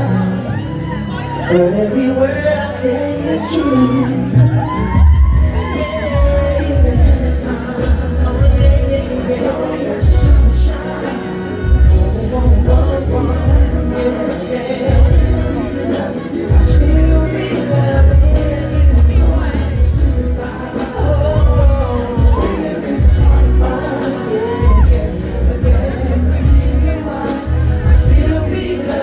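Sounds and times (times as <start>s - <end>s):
person singing: 0.0s - 29.0s
pop music with bass beat: 0.0s - 29.0s.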